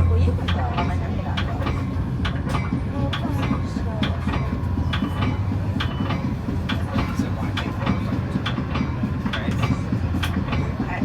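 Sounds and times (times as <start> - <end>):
train interior low rumble: 0.0 - 11.0
wheel clicks over rail joints: 0.0 - 11.0.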